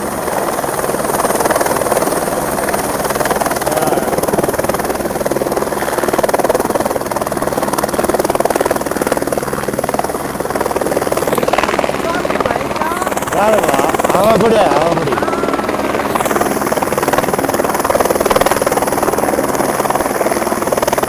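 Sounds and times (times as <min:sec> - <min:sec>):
helicopter engine: 0:00.0 - 0:21.0
helicopter rotor beat: 0:00.0 - 0:21.0.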